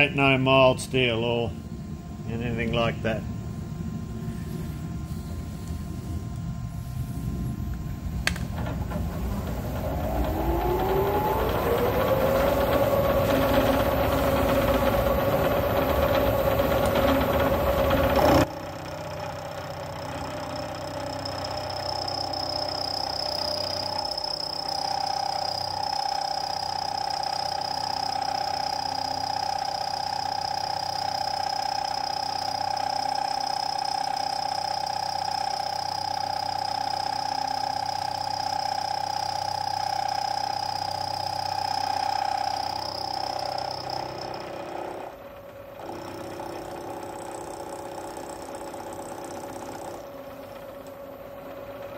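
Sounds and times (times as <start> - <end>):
machine whine: 0.0 - 51.9.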